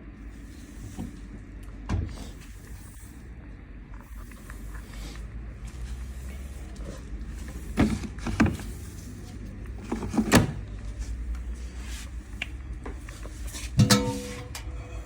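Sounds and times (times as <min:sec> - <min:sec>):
washing machine low hum: 0:00.0 - 0:15.0.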